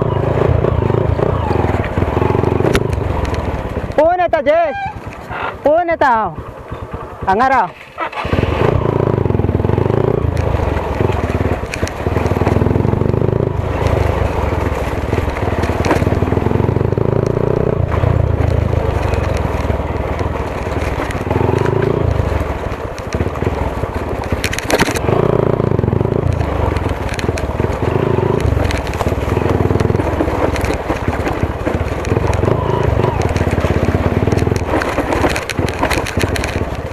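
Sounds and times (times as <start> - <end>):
bike rattling: 0.0 - 36.9
motorcycle engine revving: 0.0 - 36.9
tyres crunching on dirt: 0.0 - 36.9.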